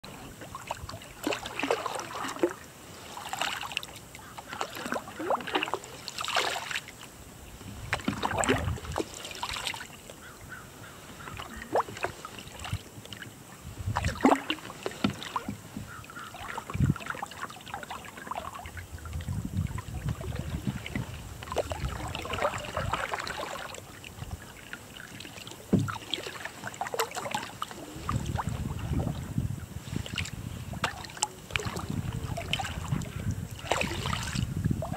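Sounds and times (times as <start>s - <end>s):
paddle splashing water: 0.0s - 34.9s.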